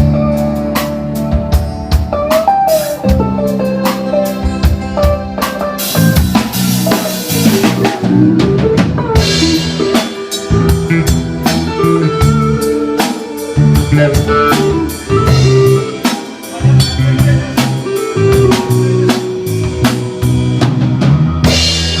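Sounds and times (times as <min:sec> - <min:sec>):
drum kit with cymbals: 0:00.0 - 0:22.0
live band jamming: 0:00.0 - 0:22.0.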